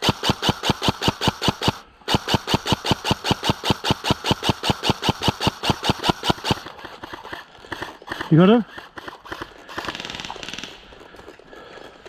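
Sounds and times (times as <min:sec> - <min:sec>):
airsoft gun firing full auto: 0:00.0 - 0:10.8.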